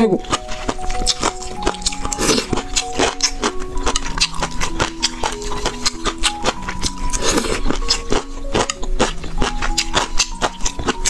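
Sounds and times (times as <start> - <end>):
background music with held notes: 0.0 - 11.0
moist chewing clicks: 0.2 - 11.0.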